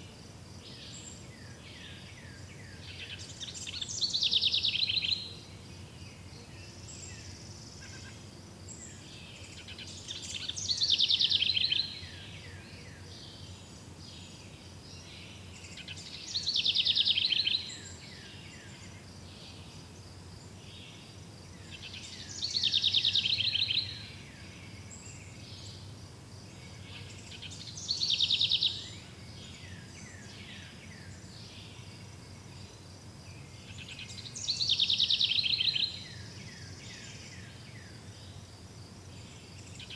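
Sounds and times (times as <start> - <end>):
faint high insect-like hum: 0.0 - 39.9
low background hiss: 0.0 - 39.9
songbird trilled song: 0.7 - 19.8, 20.5 - 38.5.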